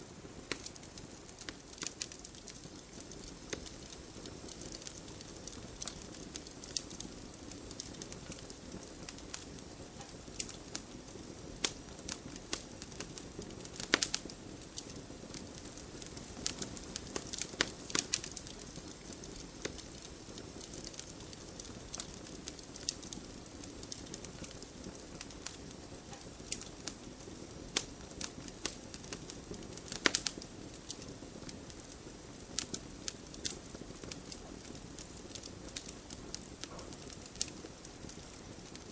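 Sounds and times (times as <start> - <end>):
wood fire crackling: 0.0 - 38.9
sharp fire pops: 0.1 - 38.9.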